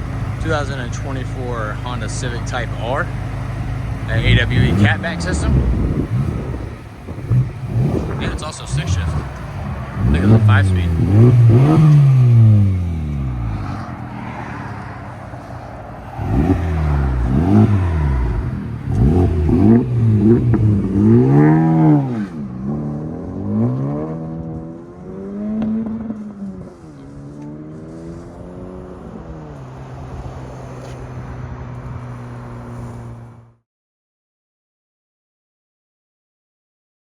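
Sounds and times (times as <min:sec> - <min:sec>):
car engine revving driving off: 0:00.0 - 0:33.6.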